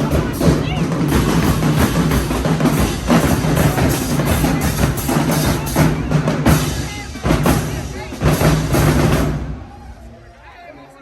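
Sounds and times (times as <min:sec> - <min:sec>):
snare and bass drums cadence: 0:00.0 - 0:09.8.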